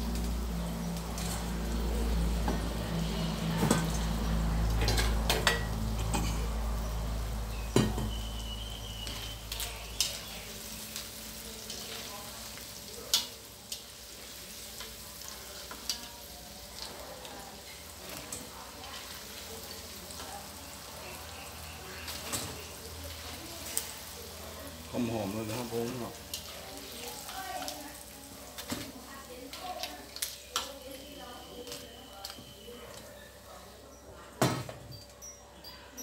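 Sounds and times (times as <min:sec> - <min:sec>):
wontons sizzling in hot oil: 0:00.0 - 0:36.0.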